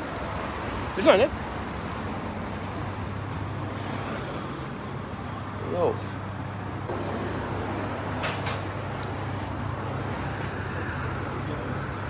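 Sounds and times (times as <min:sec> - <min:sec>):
tram hum and rumble: 0:00.0 - 0:12.0.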